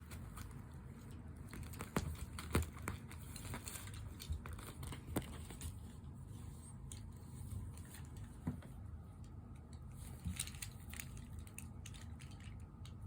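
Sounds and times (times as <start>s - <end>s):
rustling and crinkling bedding: 0.0s - 9.0s, 9.8s - 12.8s.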